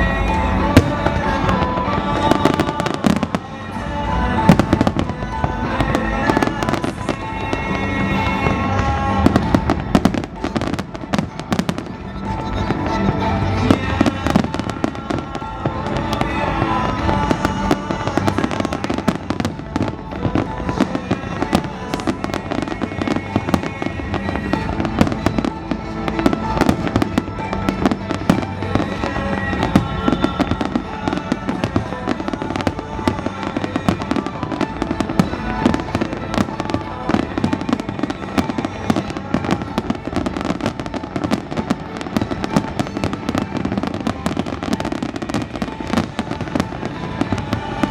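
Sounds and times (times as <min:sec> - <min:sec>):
fireworks bangs and crackles: 0:00.0 - 0:47.9
music: 0:00.0 - 0:47.9.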